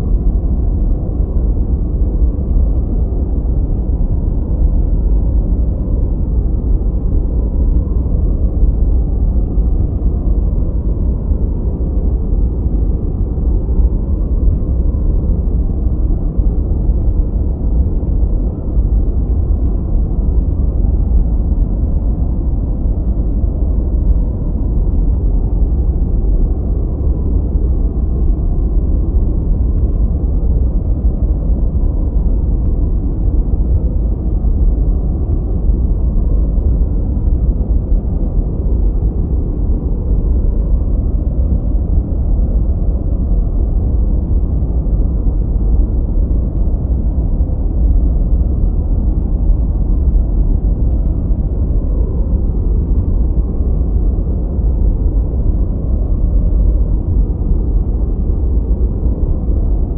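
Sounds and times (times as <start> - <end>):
deep muffled rumbling hiss: 0.0 - 59.9.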